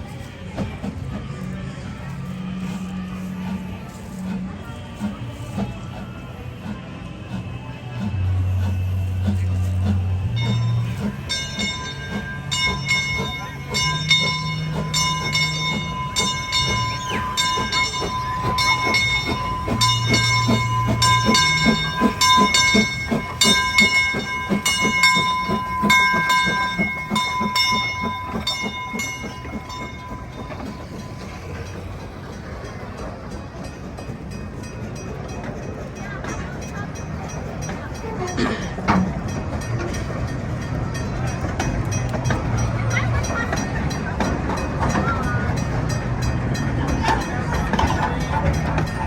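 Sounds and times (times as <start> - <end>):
train running rhythmic beat: 0.0 - 49.0
locomotive bell ringing: 1.2 - 49.0.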